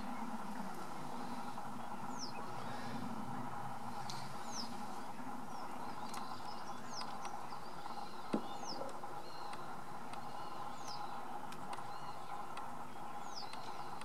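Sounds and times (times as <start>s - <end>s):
outdoor background hiss: 0.0s - 14.0s
small birds calling: 0.0s - 14.0s.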